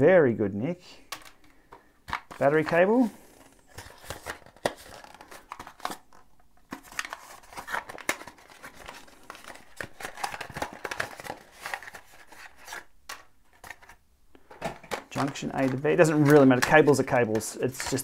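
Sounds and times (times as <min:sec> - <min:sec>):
plastic bags crinkling: 0:02.1 - 0:18.0.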